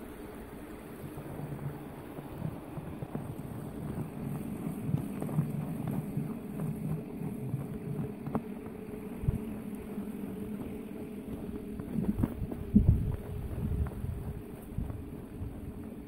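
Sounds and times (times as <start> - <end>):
wind rumbling on microphone: 0.0 - 16.0
footsteps in snow: 1.0 - 16.0.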